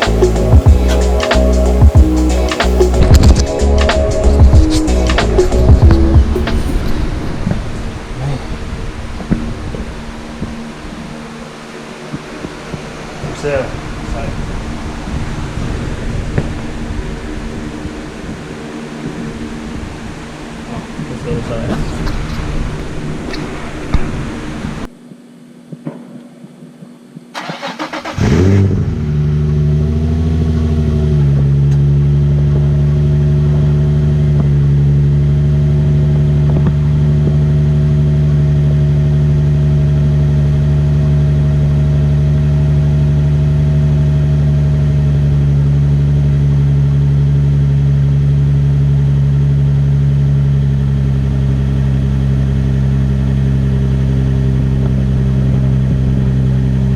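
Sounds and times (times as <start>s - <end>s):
car engine starting and idling: 0.0s - 24.9s, 27.4s - 56.9s.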